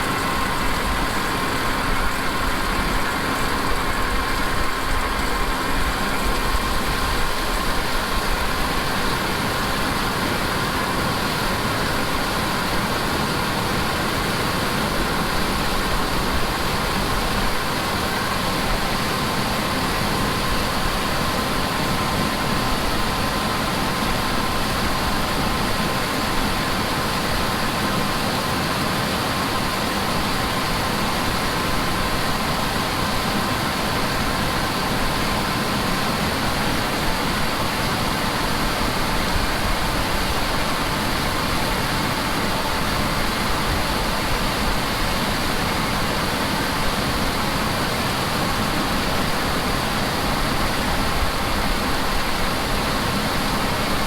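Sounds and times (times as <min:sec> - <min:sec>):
thin steady whine: 0:00.0 - 0:54.0.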